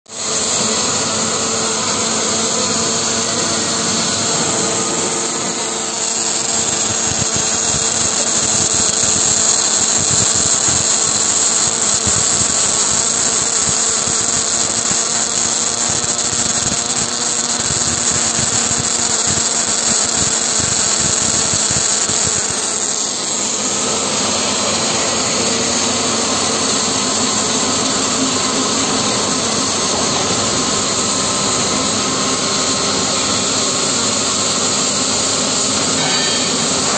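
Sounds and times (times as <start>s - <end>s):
welding arc crackling and hissing: 0.1s - 36.9s.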